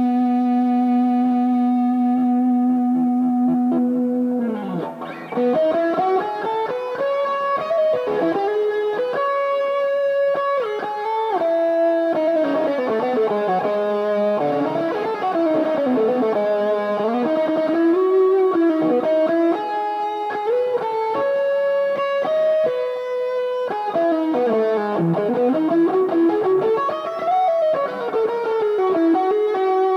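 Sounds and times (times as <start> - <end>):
electric guitar playing: 0.0 - 29.9.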